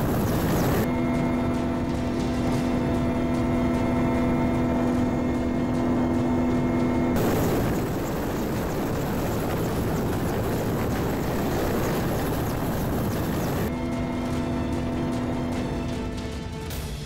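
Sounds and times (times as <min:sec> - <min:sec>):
helicopter rotors turning: 0:00.0 - 0:15.7
helicopter cabin drone: 0:00.0 - 0:16.0.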